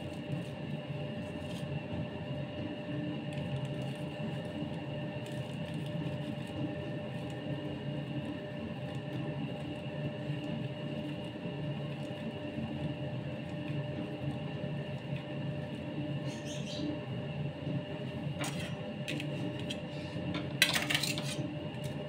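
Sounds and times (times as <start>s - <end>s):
machine hum with whining tones: 0.0s - 22.0s.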